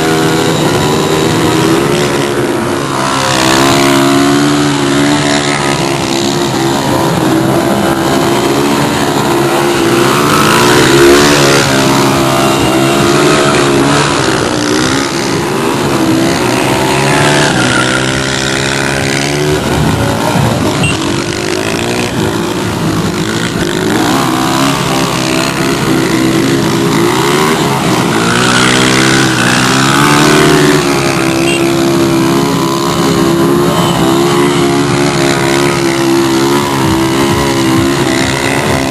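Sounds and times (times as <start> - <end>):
motorcycle and car engines revving: 0.0 - 38.9.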